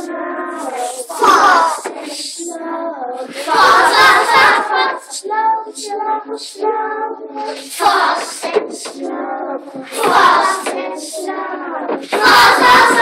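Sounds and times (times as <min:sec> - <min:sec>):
children singing: 0:00.0 - 0:13.0.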